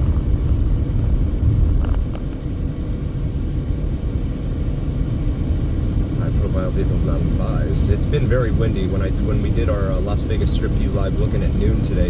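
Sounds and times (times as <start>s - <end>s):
car cabin road and wind rumble: 0.0s - 12.0s.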